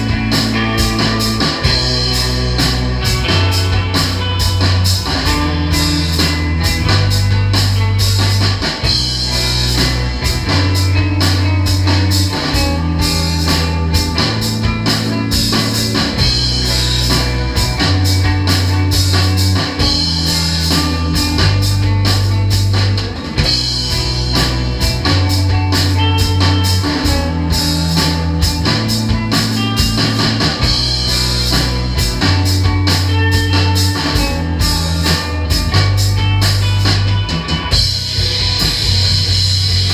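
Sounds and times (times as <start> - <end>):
bass notes: 0.0 - 39.9
drum kit and cymbals: 0.0 - 39.9
guitar: 0.0 - 39.9.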